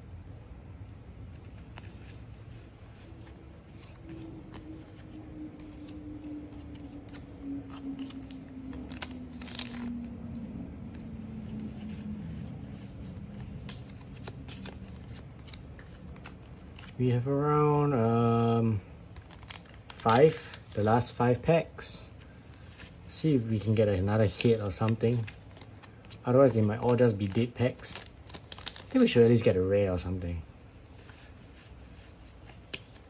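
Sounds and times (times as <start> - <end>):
cards rustling and clicking: 1.2 - 17.4, 19.0 - 21.3, 22.1 - 33.0.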